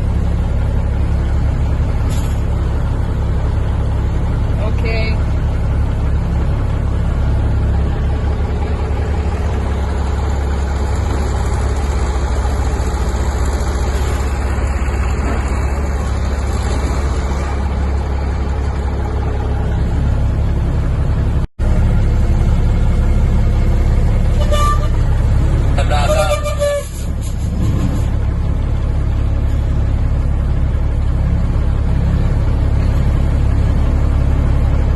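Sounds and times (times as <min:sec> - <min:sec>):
heavy vehicle engine droning: 0:00.0 - 0:34.9.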